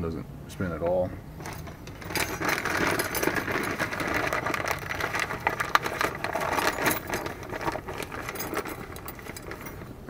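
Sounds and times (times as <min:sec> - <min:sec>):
small metal parts clicking: 0:01.4 - 0:09.9.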